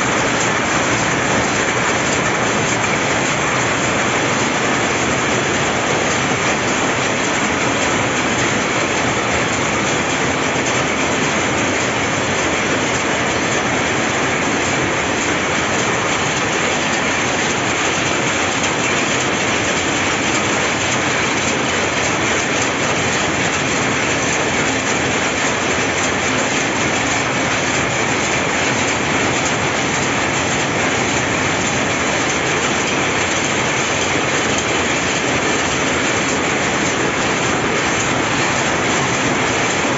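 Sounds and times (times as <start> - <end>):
power looms clattering: 0.0 - 39.9.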